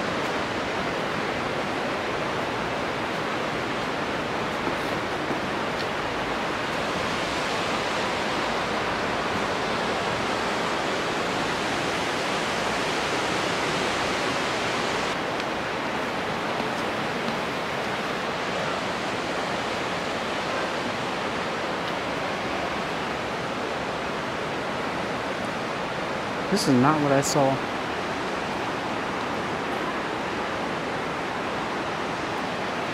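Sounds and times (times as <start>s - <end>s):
river rushing: 0.0s - 32.9s.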